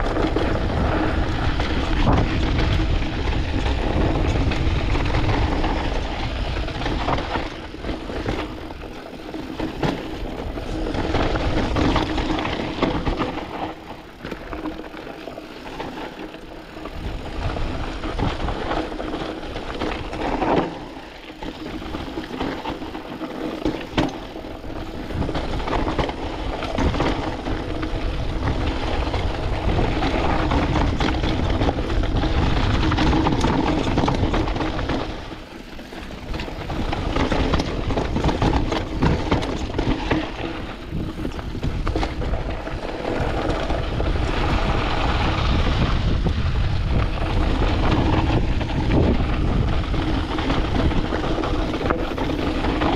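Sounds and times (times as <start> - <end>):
wind on microphone: 0.0 - 14.0, 15.7 - 52.9
bike rattling: 0.0 - 52.9
tyres crunching on gravel: 0.0 - 52.9.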